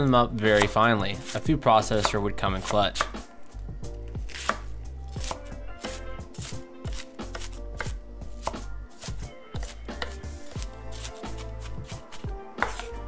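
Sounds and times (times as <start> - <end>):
knife chopping on wooden board: 0.5 - 3.3, 4.1 - 13.0.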